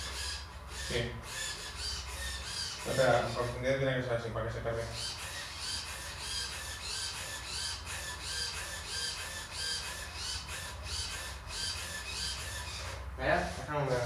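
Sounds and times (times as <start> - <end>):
servos whining: 0.0 - 14.0.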